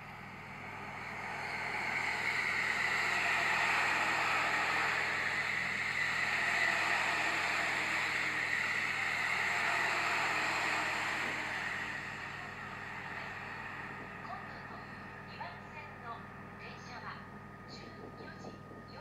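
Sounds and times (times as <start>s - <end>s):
train rushing past: 0.2s - 15.6s.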